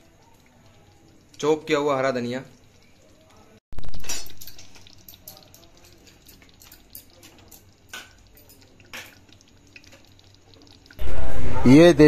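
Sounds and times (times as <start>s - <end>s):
gravy bubbling in a pot: 0.0s - 12.0s.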